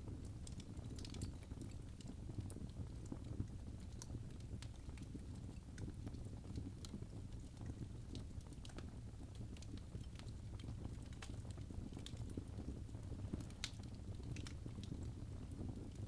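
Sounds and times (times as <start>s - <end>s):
fire low rumble: 0.0s - 16.0s
wood fire crackling: 0.0s - 16.0s.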